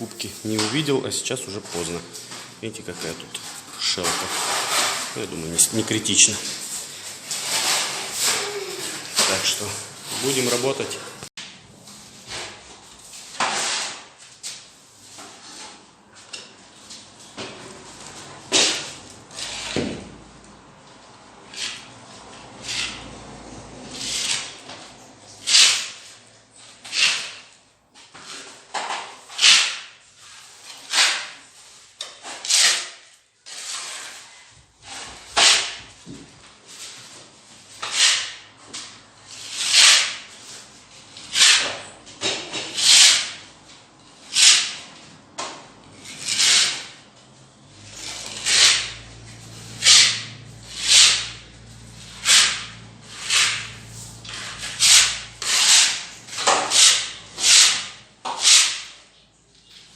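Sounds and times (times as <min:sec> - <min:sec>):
hand tool scraping a wall: 0:00.2 - 0:20.2, 0:21.3 - 0:59.8.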